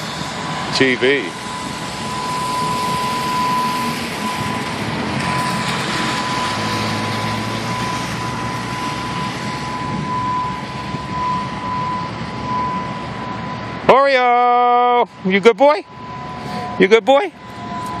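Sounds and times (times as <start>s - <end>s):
highway traffic rushing: 0.0s - 18.0s.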